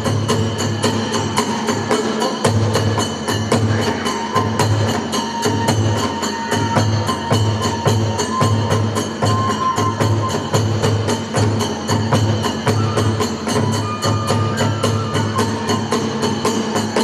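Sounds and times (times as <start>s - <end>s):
bamboo flute high notes: 0.0s - 17.0s
big drum beating fast rhythm: 0.0s - 17.0s
hand cymbals clashing: 0.0s - 17.0s.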